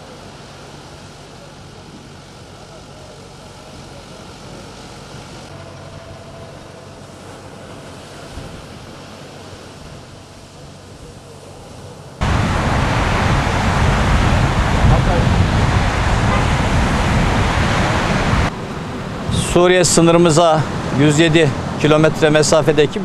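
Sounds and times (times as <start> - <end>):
loud wind: 0.0 - 23.0
surf: 0.0 - 23.0.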